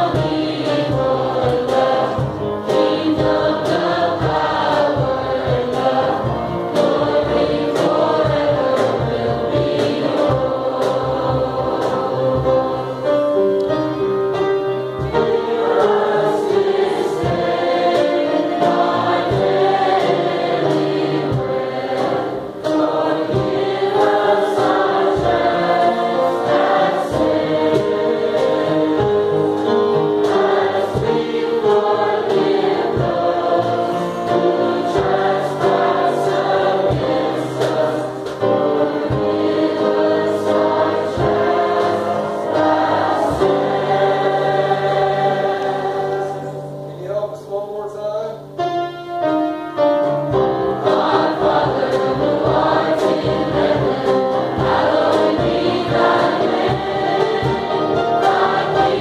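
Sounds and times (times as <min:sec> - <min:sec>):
steady beat: 0:00.0 - 0:13.1, 0:15.0 - 0:46.4, 0:50.7 - 0:59.0
choir singing gospel song: 0:00.0 - 0:47.6, 0:50.2 - 0:59.0.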